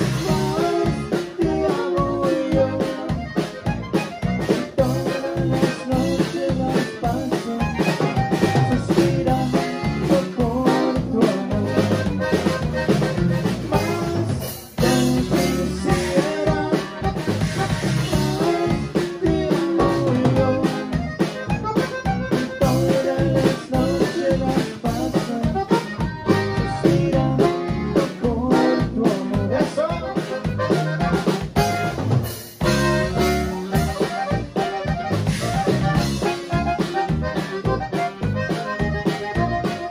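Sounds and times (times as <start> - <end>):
button accordion: 0.0 - 39.9
drum kit: 0.0 - 39.9
electric bass: 0.0 - 39.9
guitar: 0.0 - 39.9.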